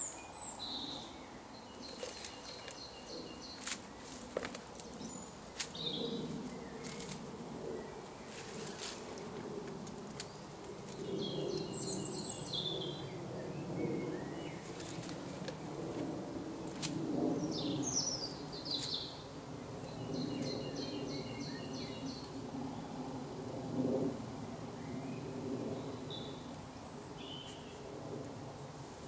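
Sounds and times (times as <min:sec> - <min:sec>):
birds singing: 0:00.0 - 0:09.3, 0:10.2 - 0:15.9, 0:17.2 - 0:22.9, 0:24.8 - 0:27.9.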